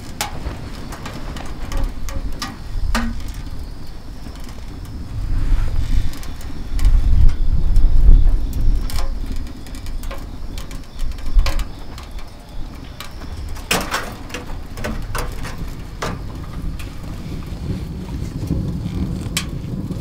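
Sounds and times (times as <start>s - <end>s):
fire low rumble: 0.0s - 20.0s
wood fire crackling: 0.0s - 20.0s.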